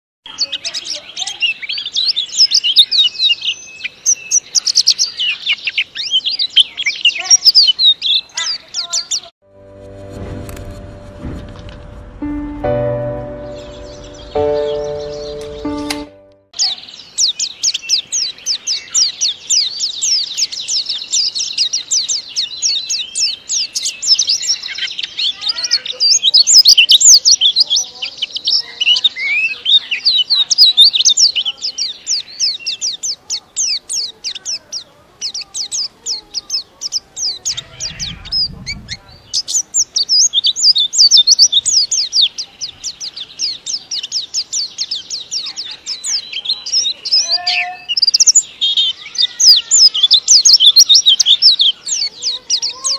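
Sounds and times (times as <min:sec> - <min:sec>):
bird singing rapid high chirps: 0:00.3 - 0:09.3, 0:13.0 - 0:52.9.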